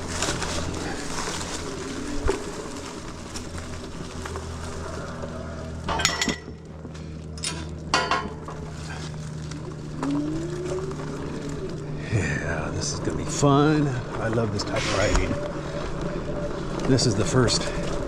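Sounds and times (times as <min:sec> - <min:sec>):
electric motor hum: 0:00.0 - 0:18.0
rising whine: 0:00.0 - 0:18.0
tyres crunching on dirt: 0:00.0 - 0:18.0.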